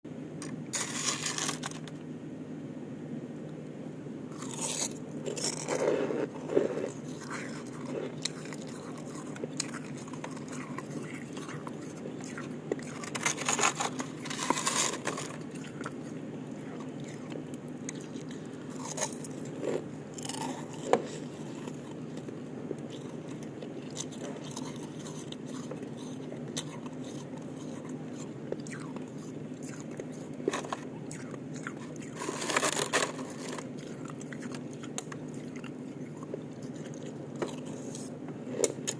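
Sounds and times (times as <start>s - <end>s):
steady low hum: 0.0s - 38.9s
ice crunching between teeth: 0.4s - 2.0s, 4.3s - 38.9s
quiet chewing: 4.3s - 38.9s.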